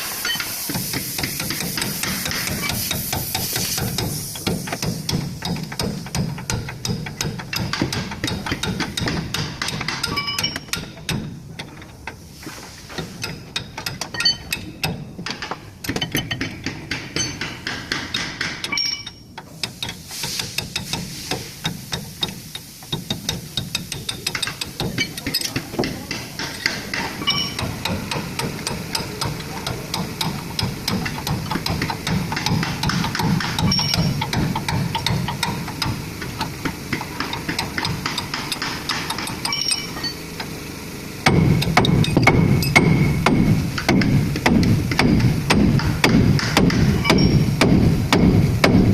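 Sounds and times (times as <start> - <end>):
hammer striking metal: 0.0 - 11.3, 13.0 - 40.2, 41.2 - 48.9.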